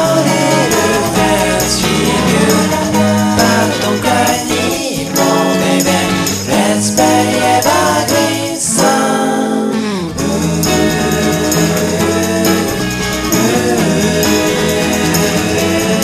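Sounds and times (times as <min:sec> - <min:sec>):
pop song with singing and guitar: 0:00.0 - 0:16.0.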